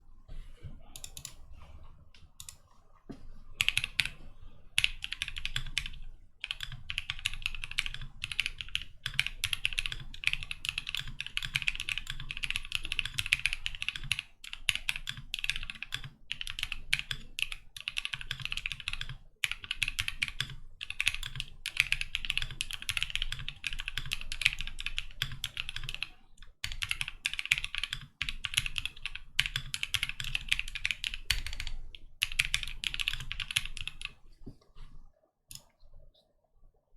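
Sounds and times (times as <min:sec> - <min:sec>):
mechanical keyboard typing: 0:03.6 - 0:04.2, 0:04.8 - 0:34.2.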